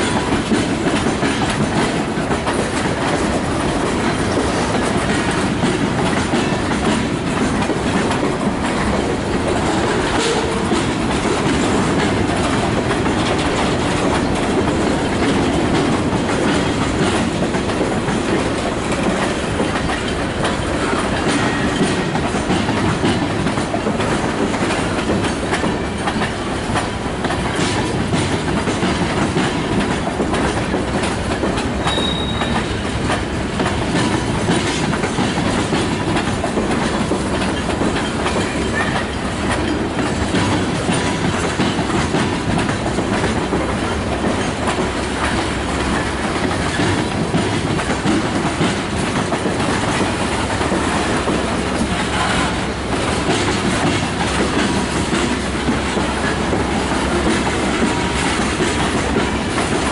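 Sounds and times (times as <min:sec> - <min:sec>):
freight train rolling past: 0:00.0 - 0:59.9
wheels clicking over rail joints: 0:00.0 - 0:59.9.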